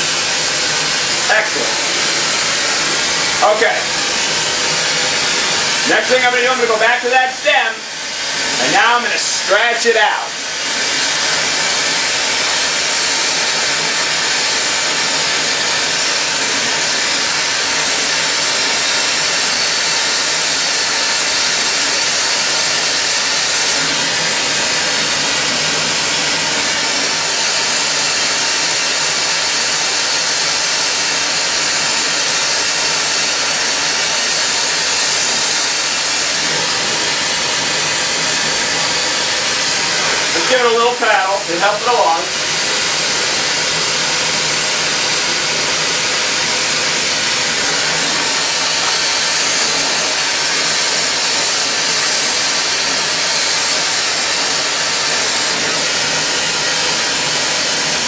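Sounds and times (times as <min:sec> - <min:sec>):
torch flame hissing: 0:00.0 - 0:58.0.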